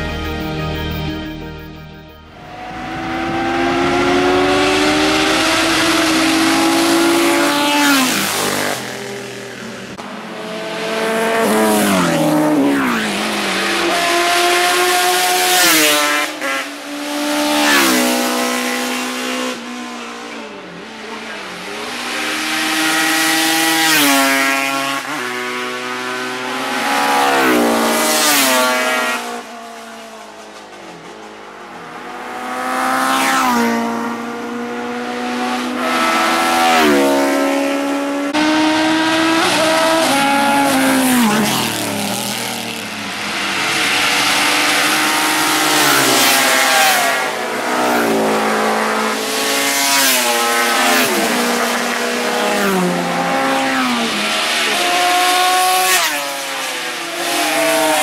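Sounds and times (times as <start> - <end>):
racing motorcycles passing: 0.0 - 58.0.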